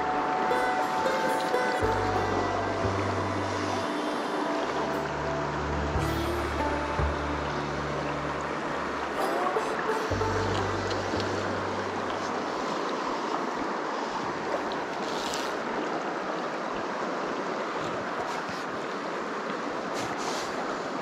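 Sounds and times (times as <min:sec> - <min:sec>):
creek rushing over rocks: 0:00.0 - 0:21.0.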